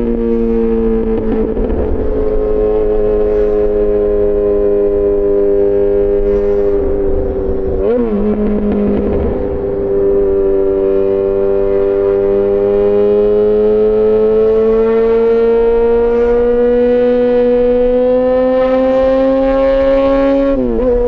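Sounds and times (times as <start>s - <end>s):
low wind rumble: 0.0s - 21.0s
motorcycle engine cruising: 0.0s - 21.0s.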